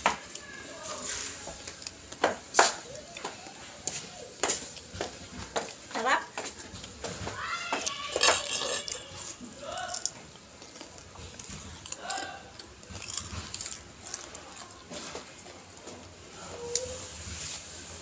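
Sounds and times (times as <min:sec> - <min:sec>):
popcorn chewing and crunching: 0:00.0 - 0:17.8.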